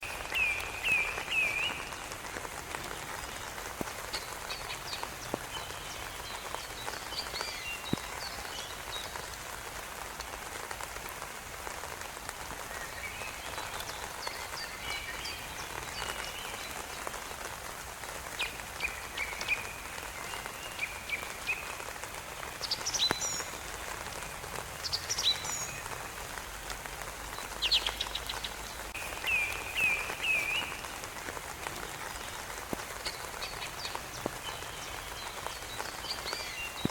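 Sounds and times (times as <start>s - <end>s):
songbirds singing: 0.0s - 10.1s, 12.6s - 36.9s.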